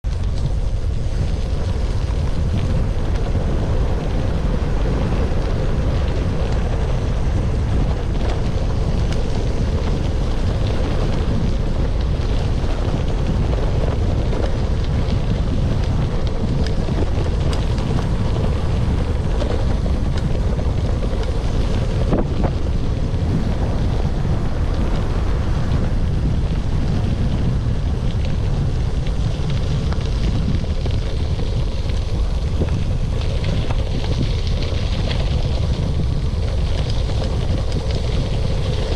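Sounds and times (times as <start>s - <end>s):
bike tyres rolling on rough road: 0.0s - 38.9s
wind buffeting microphone: 0.0s - 38.9s.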